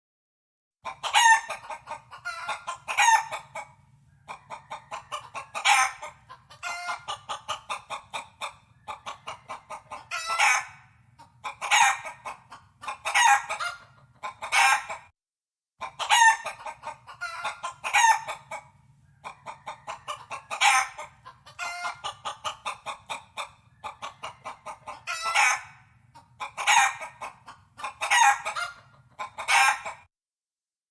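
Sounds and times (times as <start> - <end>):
hen clucking and cackling: 0.8 - 15.1, 15.8 - 30.1.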